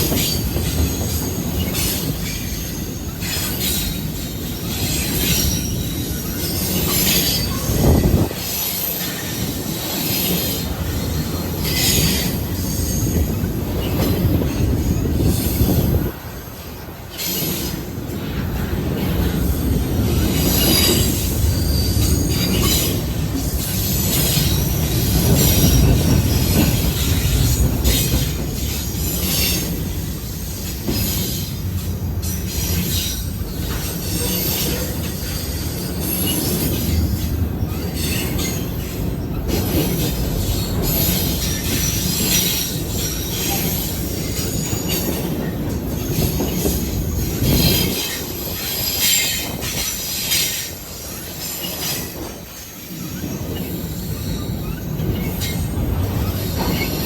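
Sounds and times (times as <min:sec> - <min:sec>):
steel wheels squealing on rails: 0:00.0 - 0:57.0
train cars rumbling past: 0:00.0 - 0:57.0.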